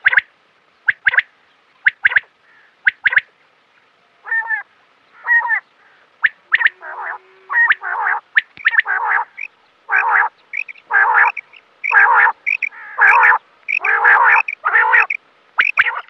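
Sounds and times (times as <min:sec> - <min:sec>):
quail calling: 0:00.9 - 0:03.3, 0:04.2 - 0:16.0.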